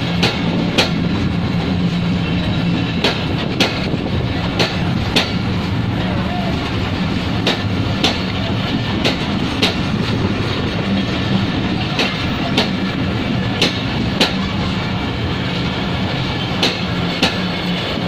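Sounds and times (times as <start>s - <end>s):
train wheels rumbling on rails: 0.0s - 18.0s
wheels clacking over rail joints: 0.0s - 18.0s.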